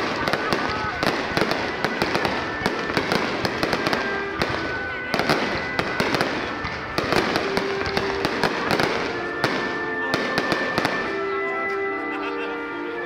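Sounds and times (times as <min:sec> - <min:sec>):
fireworks bangs and pops: 0:00.0 - 0:11.9.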